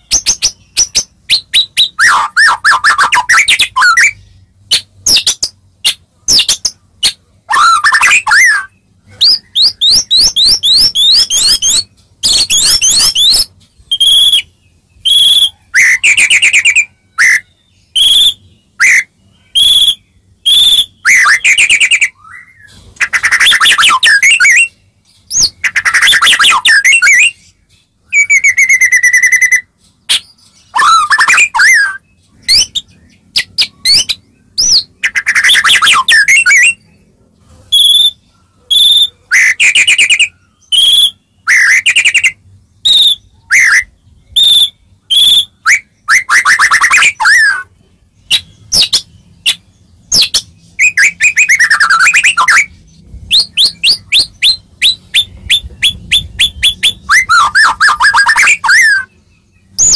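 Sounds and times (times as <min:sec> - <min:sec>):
bird singing whistles and chatter: 0:00.0 - 0:37.0, 0:37.7 - 0:59.9.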